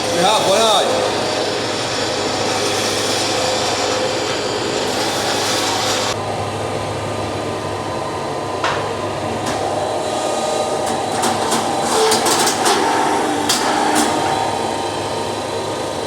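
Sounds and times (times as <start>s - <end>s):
gas forge humming: 0.0s - 16.0s.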